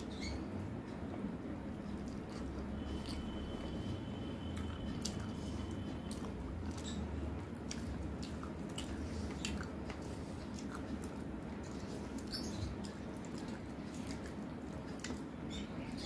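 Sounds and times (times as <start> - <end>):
close-miked chewing: 0.0 - 16.0
low steady hum: 0.0 - 16.0.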